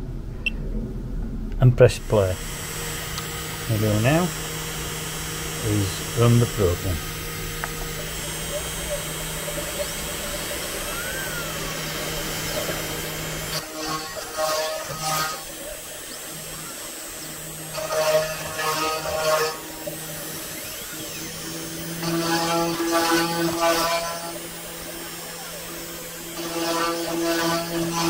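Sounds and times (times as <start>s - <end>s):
router spindle humming: 1.8s - 28.0s
router bit whining through wood: 1.9s - 28.0s.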